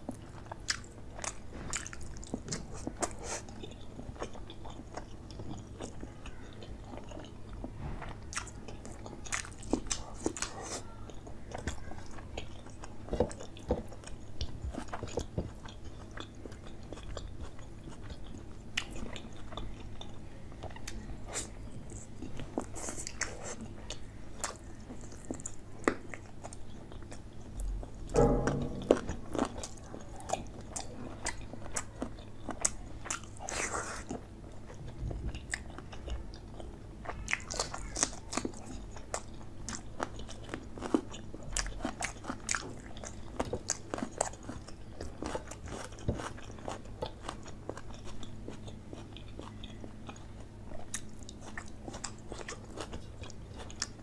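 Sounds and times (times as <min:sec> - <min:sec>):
chewing with wet mouth clicks: 0:00.0 - 0:07.6, 0:08.3 - 0:54.0.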